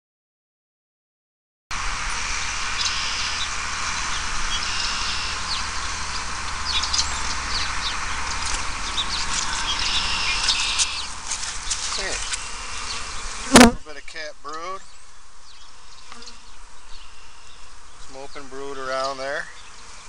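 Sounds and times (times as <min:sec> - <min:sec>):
steady hiss: 0:01.8 - 0:20.0
birds chirping: 0:02.1 - 0:20.0.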